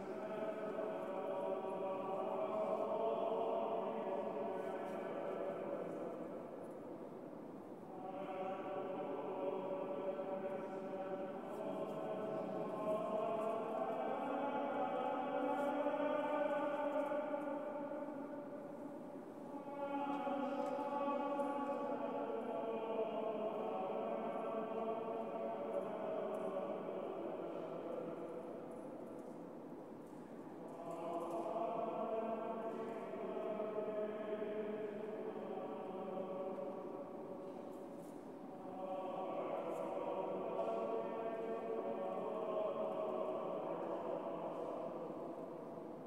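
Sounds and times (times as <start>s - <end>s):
choir chanting: 0.0s - 29.4s, 30.5s - 46.0s.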